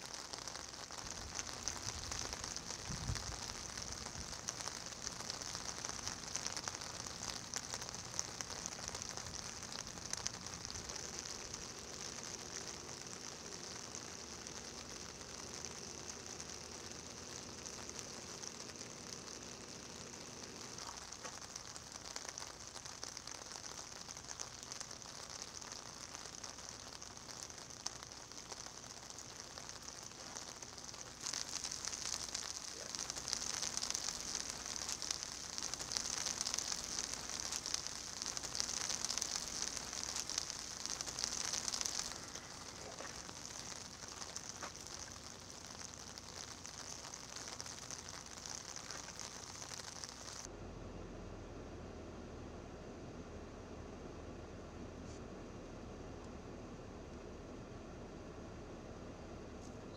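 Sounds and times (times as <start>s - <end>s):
freezing rain pattering: 0.0s - 50.5s.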